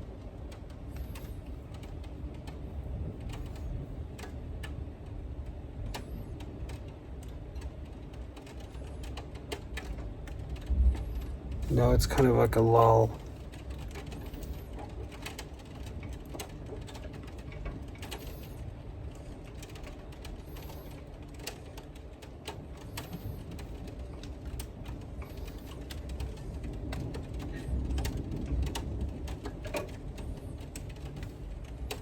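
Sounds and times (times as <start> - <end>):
wind low rumble: 0.0 - 32.0.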